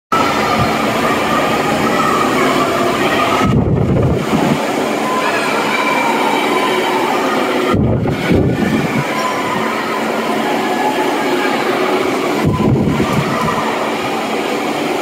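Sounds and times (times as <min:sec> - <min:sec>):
crowded indoor pool din: 0:00.1 - 0:15.0.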